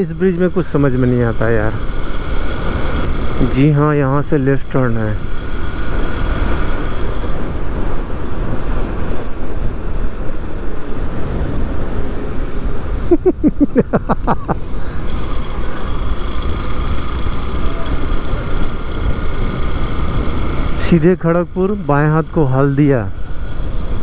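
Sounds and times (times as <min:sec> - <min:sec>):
wind rush: 0:00.0 - 0:21.0
motorcycle riding: 0:00.0 - 0:24.0.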